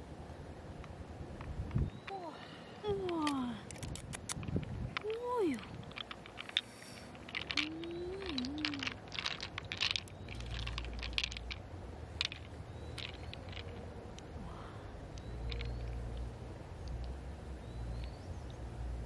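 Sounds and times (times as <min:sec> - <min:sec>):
pearls clicking against shell: 0:00.8 - 0:19.0.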